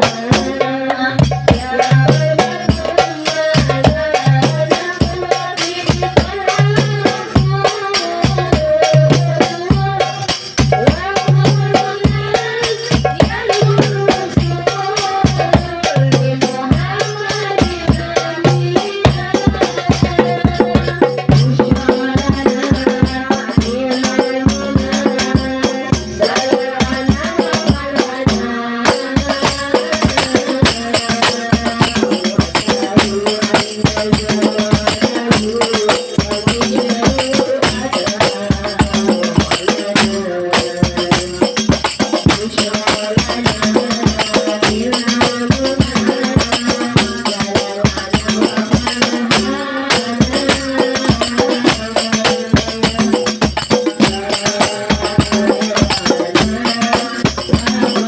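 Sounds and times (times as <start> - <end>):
rattling hand percussion: 0.0 - 58.0.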